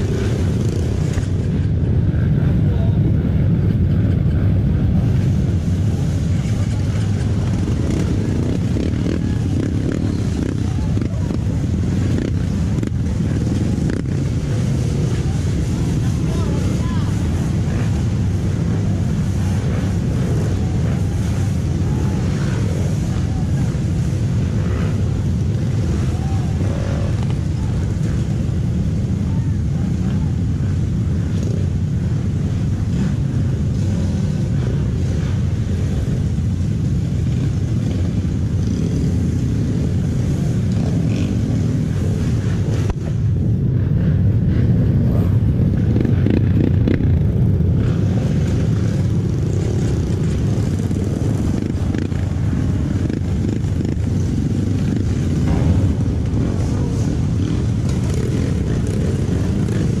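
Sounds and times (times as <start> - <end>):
motorcycle engine rumbling: 0.0 - 60.0.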